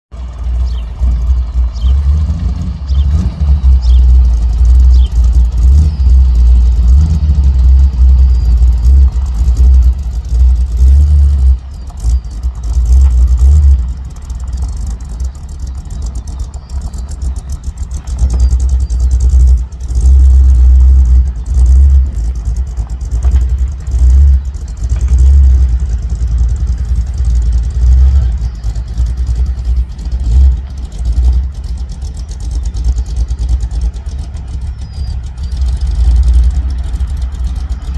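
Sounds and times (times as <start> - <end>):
car engine with deep exhaust: 0.0 - 37.9.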